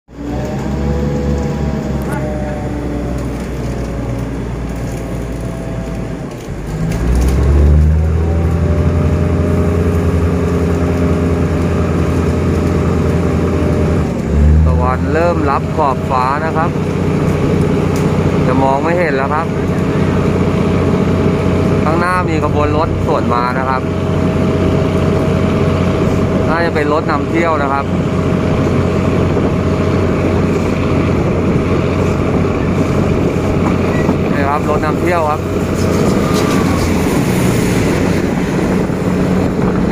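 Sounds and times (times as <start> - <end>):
carriages rumbling on track: 0.1 - 39.9
train engine drone: 0.1 - 39.9
wind rushing over microphone: 0.1 - 39.9.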